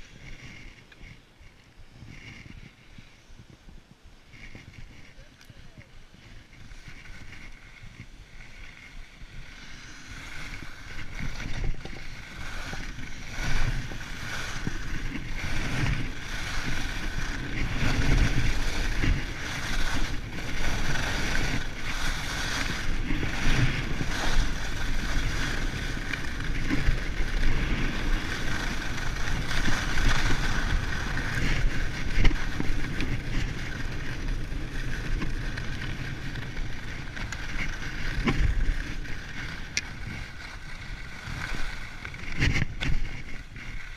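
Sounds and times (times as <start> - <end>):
skis scraping over snow: 0.0 - 43.9
wind buffeting microphone: 0.0 - 43.9.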